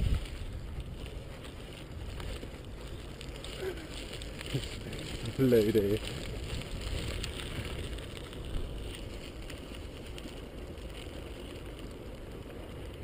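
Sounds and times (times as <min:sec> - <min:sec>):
tyres rolling on path: 0:00.0 - 0:13.0
wind rumble on microphone: 0:00.0 - 0:13.0.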